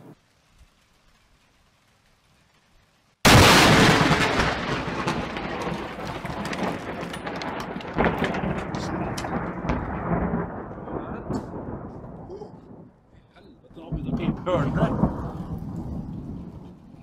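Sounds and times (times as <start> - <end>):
thunder rumble with crackles: 0.0 - 17.0
thunder crack: 3.2 - 17.0.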